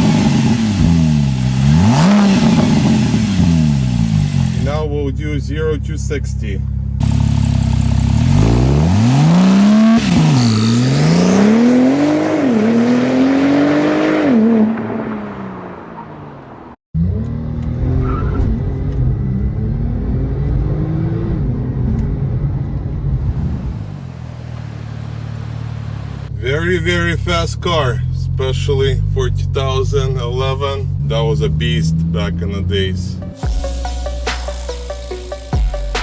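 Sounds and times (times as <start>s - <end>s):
car engine accelerating hard: 0.0s - 4.9s, 6.6s - 33.5s
engine and road drone: 0.0s - 36.0s.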